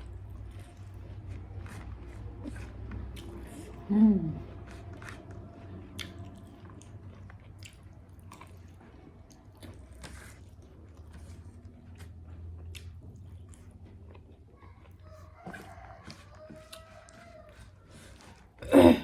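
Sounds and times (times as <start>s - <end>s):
low steady hum: 0.0s - 19.0s
person chewing food: 0.0s - 19.0s.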